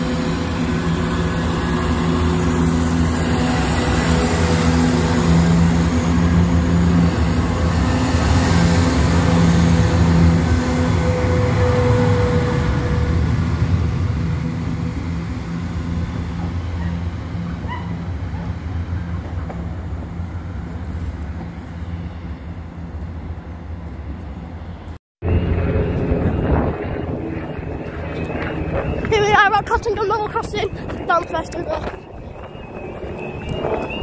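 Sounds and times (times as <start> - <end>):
train diesel engines drumming: 0.0 - 34.0.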